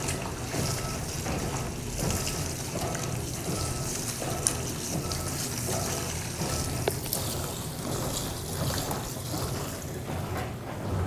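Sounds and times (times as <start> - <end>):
water swishing and trickling: 0.0 - 10.3
washing machine motor hum: 0.0 - 11.0.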